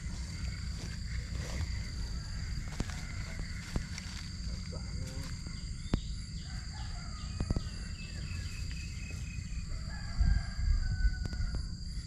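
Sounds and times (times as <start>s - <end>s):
birds chirping: 0.0s - 9.9s
insects buzzing: 0.0s - 12.0s.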